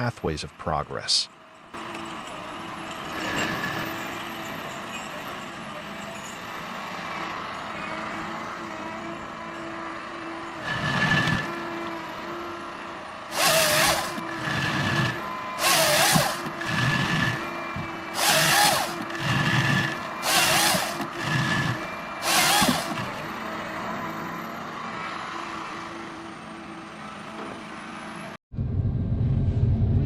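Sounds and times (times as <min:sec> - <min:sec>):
heavy forestry machine running: 0:01.8 - 0:30.0.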